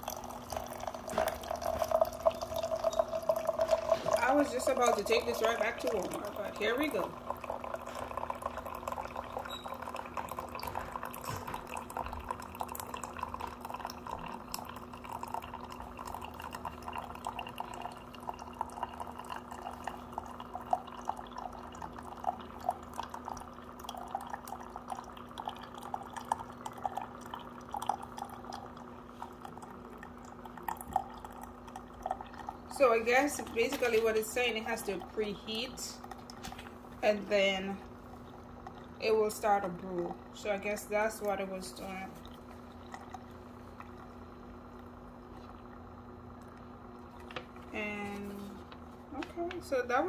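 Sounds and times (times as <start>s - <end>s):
coffee trickling into mug: 0.0s - 49.8s
coffee maker low hum: 0.0s - 50.0s.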